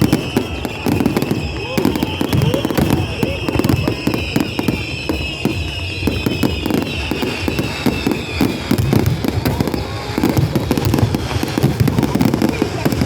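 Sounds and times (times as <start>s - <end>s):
falling whistling tone: 0.0s - 13.0s
fireworks crackling and popping: 0.0s - 13.0s
low firework booms: 0.0s - 13.0s.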